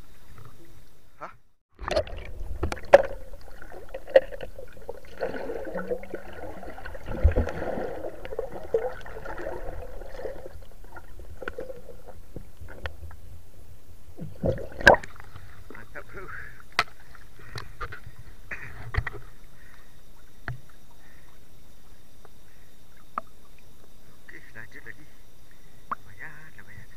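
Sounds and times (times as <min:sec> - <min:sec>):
muffled underwater water movement: 0:00.0 - 0:26.9.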